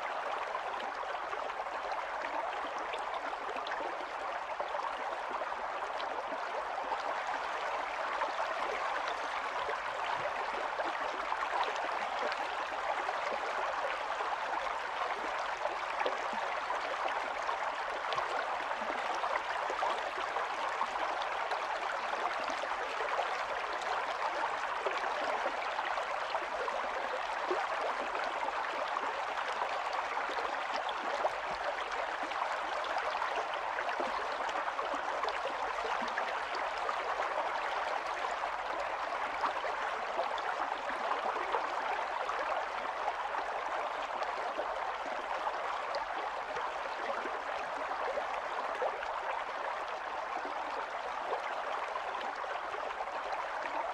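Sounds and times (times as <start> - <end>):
stream gurgling over stones: 0.0 - 53.9.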